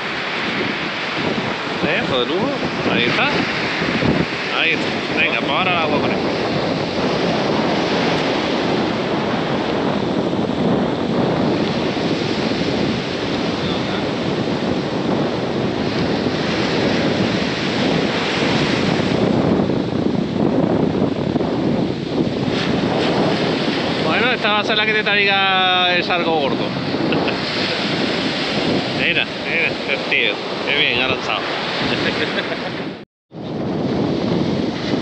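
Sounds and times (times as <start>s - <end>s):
sea surf breaking on beach: 0.0s - 35.0s
wind buffeting microphone: 0.0s - 35.0s.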